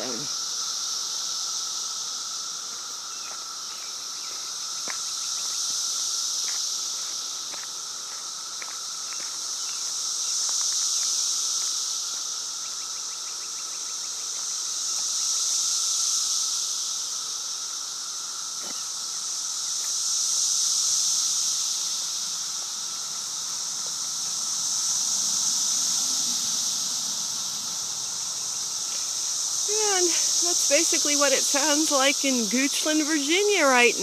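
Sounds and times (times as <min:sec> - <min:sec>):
cicadas buzzing: 0:00.0 - 0:34.0.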